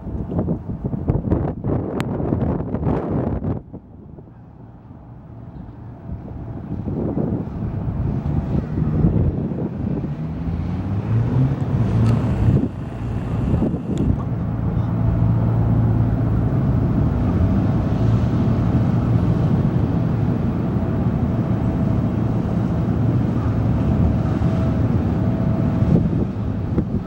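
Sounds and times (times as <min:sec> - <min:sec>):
rushing wind: 0:00.0 - 0:27.0
ferry engines droning: 0:03.8 - 0:27.0.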